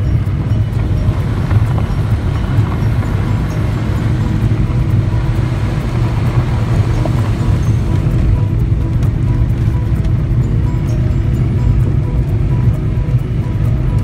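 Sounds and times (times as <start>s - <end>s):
car rumbling on gravel road: 0.0s - 14.0s.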